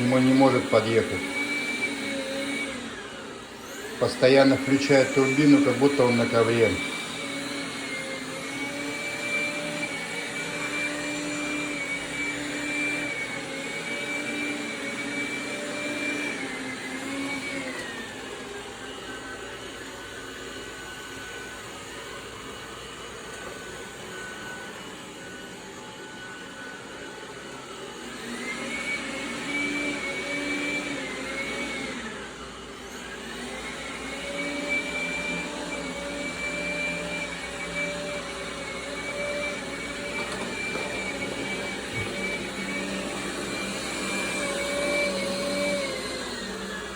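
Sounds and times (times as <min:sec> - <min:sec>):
robot vacuum motor whining: 0:00.0 - 0:46.9.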